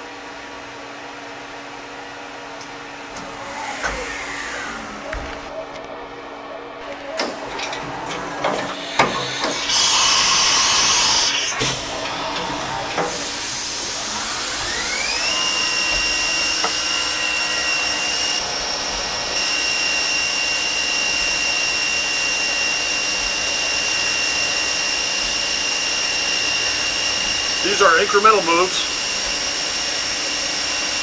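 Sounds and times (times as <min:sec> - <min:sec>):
spindle whine: 0:02.5 - 0:31.0.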